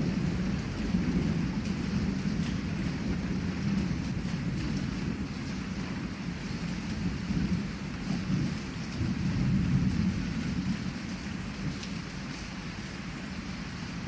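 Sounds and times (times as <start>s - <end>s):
rolling thunder: 0.0s - 12.4s
heavy rain: 0.0s - 14.0s.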